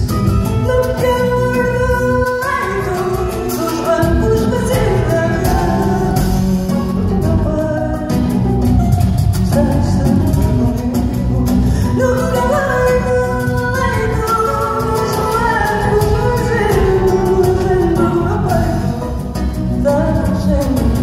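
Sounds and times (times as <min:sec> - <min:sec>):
guitar accompaniment: 0:00.0 - 0:21.0
woman singing: 0:00.0 - 0:21.0.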